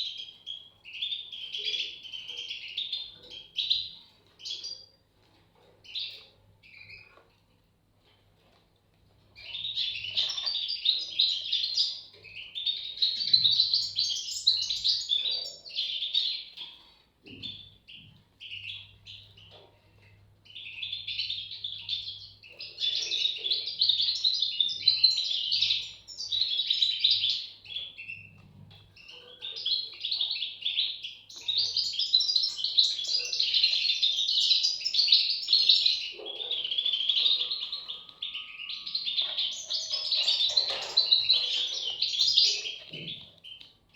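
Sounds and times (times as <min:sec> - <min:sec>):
bird chicks chirping rapidly: 0:00.0 - 0:43.9.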